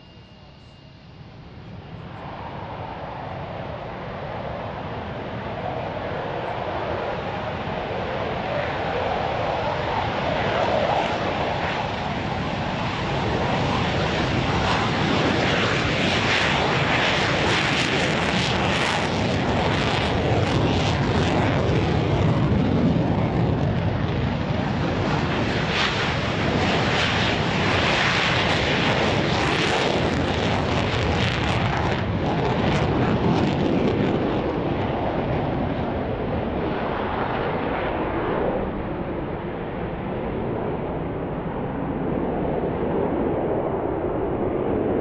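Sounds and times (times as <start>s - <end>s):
jet engine roar: 0.0s - 45.0s.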